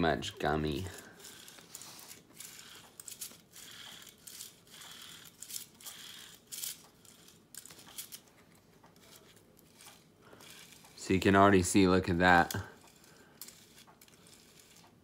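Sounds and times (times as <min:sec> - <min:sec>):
rotary dial clicks and rustles: 0:00.0 - 0:15.0.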